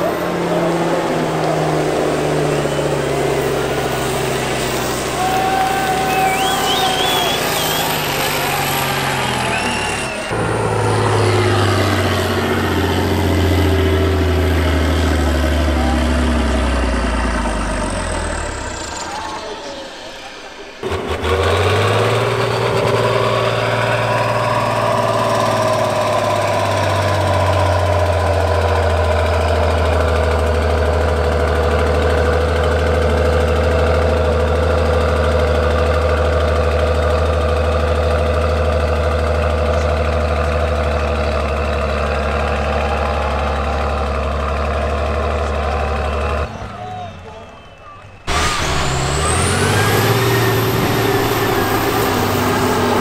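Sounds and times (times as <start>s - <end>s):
diesel truck engine droning: 0.0s - 53.0s.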